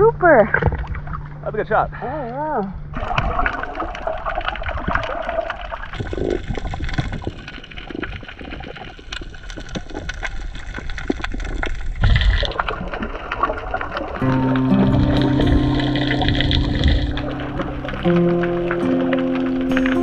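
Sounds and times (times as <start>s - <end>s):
water gurgling and sloshing: 0.0s - 20.0s
small clicks and crackles: 3.2s - 20.0s.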